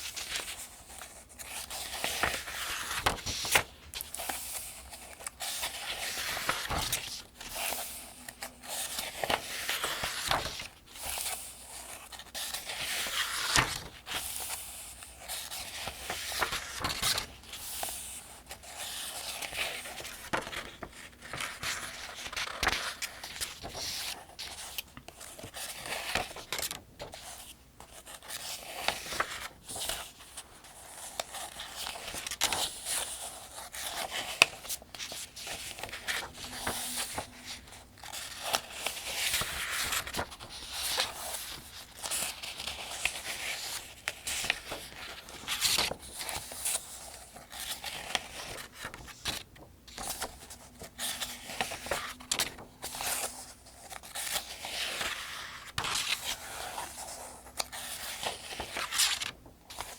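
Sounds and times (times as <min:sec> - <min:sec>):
paper pages being turned: 0:00.0 - 0:59.9.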